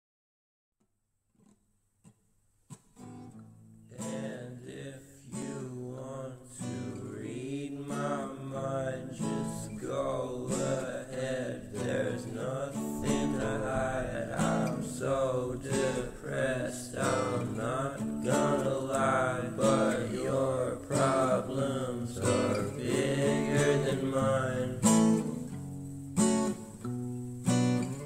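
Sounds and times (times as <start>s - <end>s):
acoustic guitar playing: 2.7s - 28.0s.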